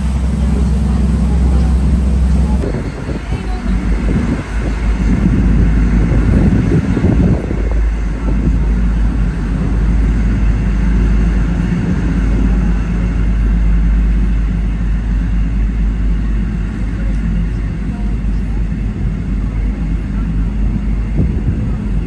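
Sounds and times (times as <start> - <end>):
vehicle engine low rumble: 0.0 - 22.0.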